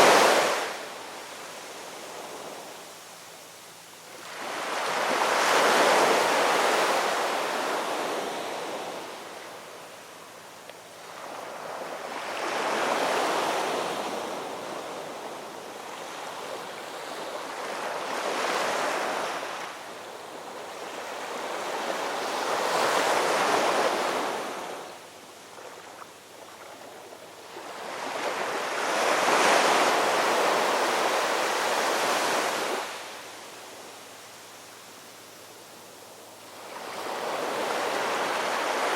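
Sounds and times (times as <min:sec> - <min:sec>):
ocean waves breaking on shore: 0:00.0 - 0:02.9, 0:04.1 - 0:10.3, 0:10.9 - 0:33.9, 0:36.5 - 0:38.9.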